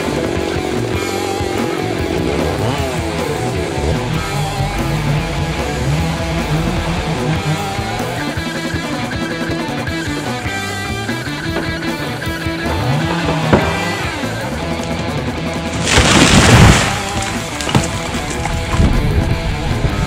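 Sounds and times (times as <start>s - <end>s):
rock music with guitar: 0.0s - 20.0s.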